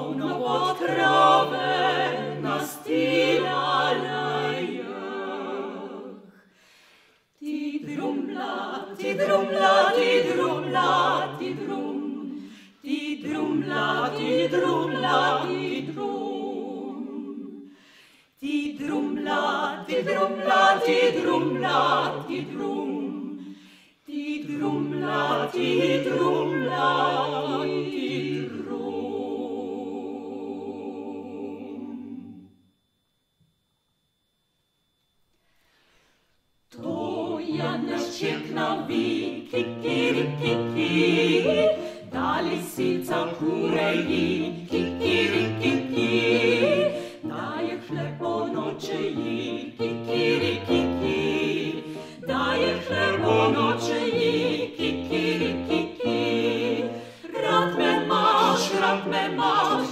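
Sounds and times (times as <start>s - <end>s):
vocal quartet singing in harmony: 0.0s - 32.9s, 35.6s - 59.9s.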